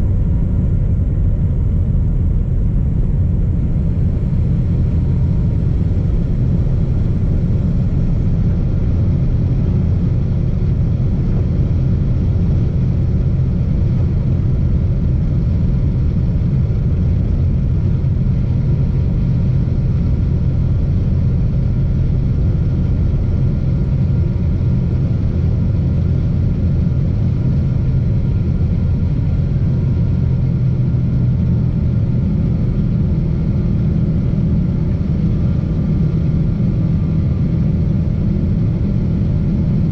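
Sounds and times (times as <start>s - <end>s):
airliner cabin engine rumble: 0.0s - 39.9s
faint steady whine tones: 0.0s - 39.9s.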